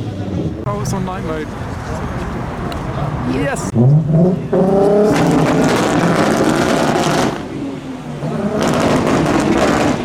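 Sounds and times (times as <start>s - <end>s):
car engine revving and accelerating: 0.7s - 10.0s.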